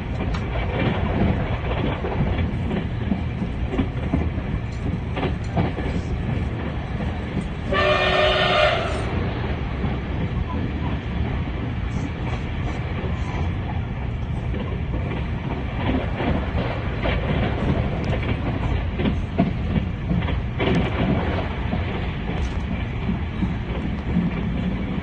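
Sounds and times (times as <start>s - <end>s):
wheels rumbling on rail: 0.0s - 25.0s.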